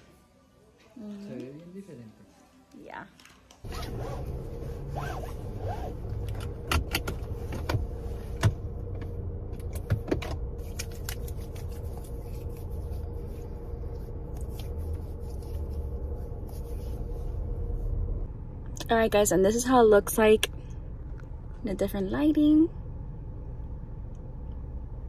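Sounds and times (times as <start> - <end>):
car engine rumble: 3.6 - 25.0
faint steady hum: 3.7 - 25.0.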